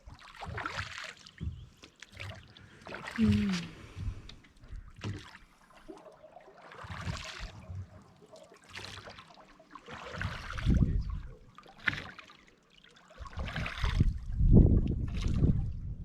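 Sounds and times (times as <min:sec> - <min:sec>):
water splashing against a rowboat: 0:00.0 - 0:16.0.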